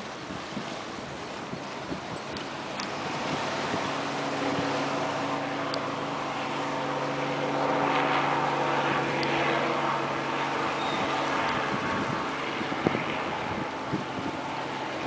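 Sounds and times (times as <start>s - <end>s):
engine hum: 0.0s - 15.0s
rushing water: 0.0s - 15.0s
wind: 0.0s - 15.0s.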